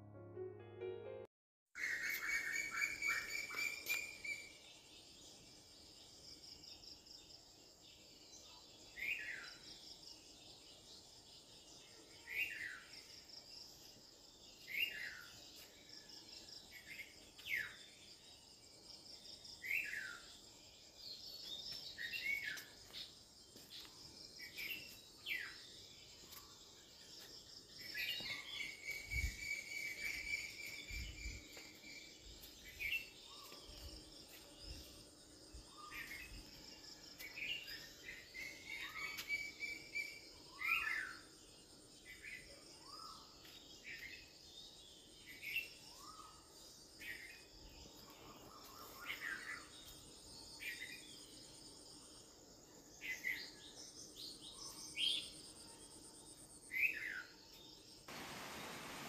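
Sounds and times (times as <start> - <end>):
insects chirping: 1.8 - 59.0.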